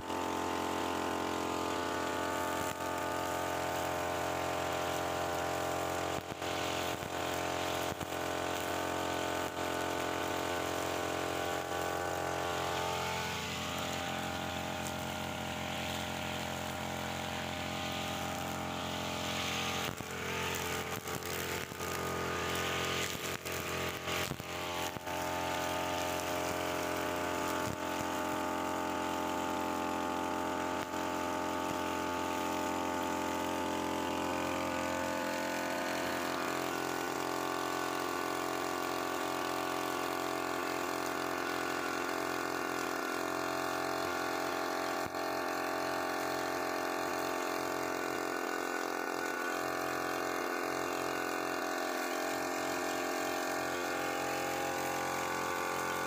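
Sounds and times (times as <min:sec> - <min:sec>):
brushcutter engine running: 0:00.0 - 0:56.0
trimmer line cutting grass: 0:00.0 - 0:56.0.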